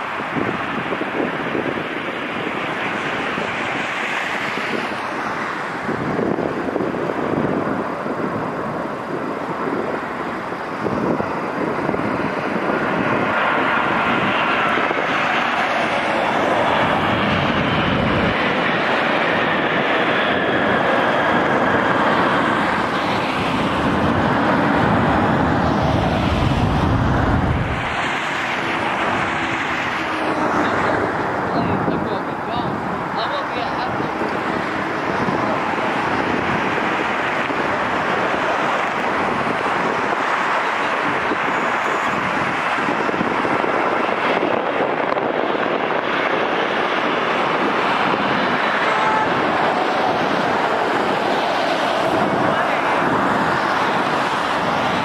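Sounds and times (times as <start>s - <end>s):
jet engines landing: 0.0s - 55.0s.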